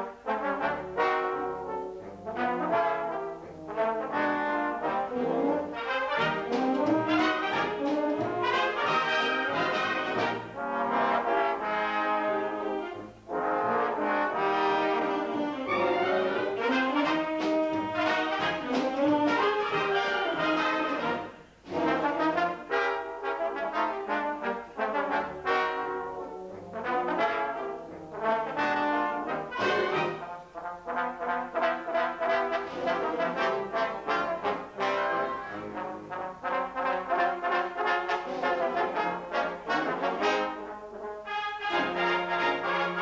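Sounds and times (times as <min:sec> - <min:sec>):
military wind band: 0:00.0 - 0:43.0
trombones playing: 0:00.0 - 0:43.0.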